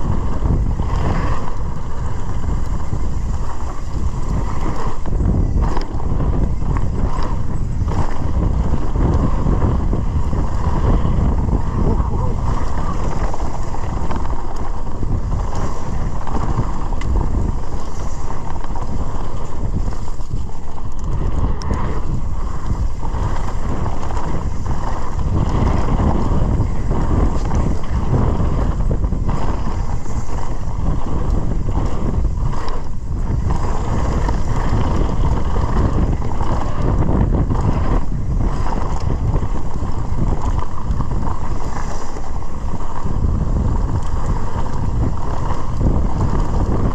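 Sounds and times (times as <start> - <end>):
bike tyres rumbling on gravel: 0.0 - 46.9
wind noise on microphone: 0.0 - 46.9.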